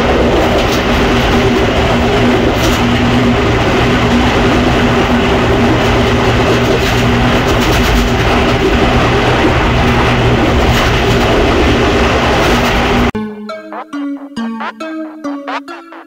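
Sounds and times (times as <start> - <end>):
train wheels rumbling on rails: 0.0 - 13.1
train engine hum: 0.0 - 13.2.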